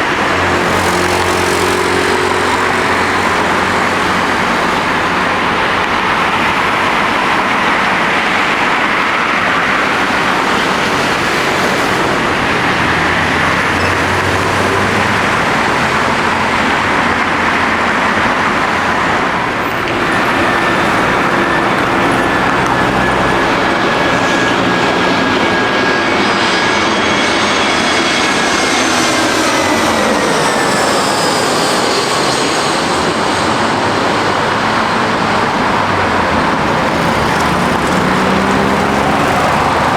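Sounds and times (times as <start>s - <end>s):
jet engines running: 0.0s - 39.9s
landing jet engine whine: 0.0s - 39.9s.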